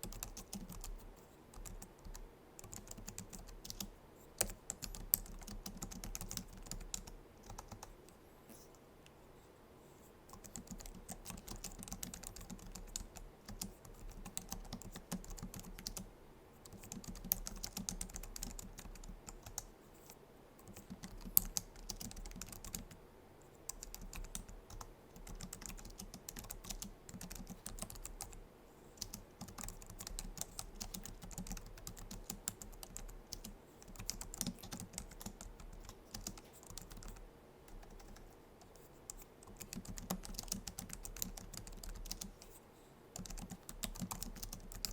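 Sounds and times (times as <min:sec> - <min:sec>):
keyboard typing clicks: 0:00.0 - 0:07.9, 0:10.3 - 0:16.1, 0:16.7 - 0:19.7, 0:23.7 - 0:28.4, 0:29.0 - 0:42.5, 0:43.2 - 0:44.9.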